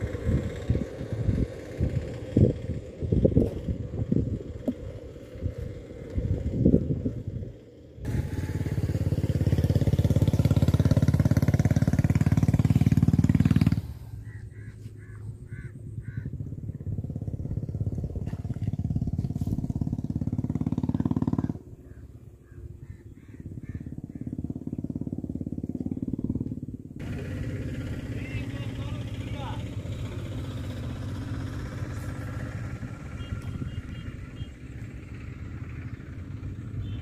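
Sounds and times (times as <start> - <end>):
small engine running: 0.0 - 14.4, 15.6 - 22.1, 22.9 - 37.0.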